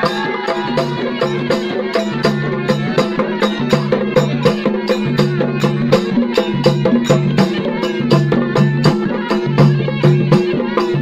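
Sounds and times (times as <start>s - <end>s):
folk music with drum beat: 0.0s - 11.0s.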